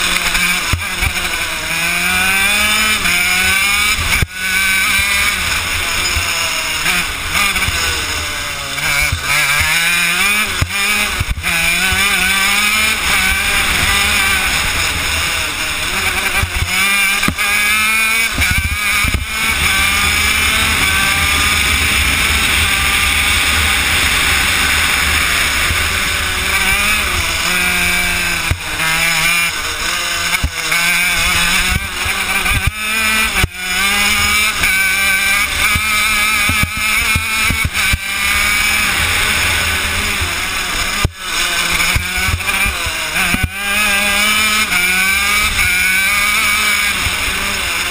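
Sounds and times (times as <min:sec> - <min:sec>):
kart engine revving: 0:00.0 - 0:47.9.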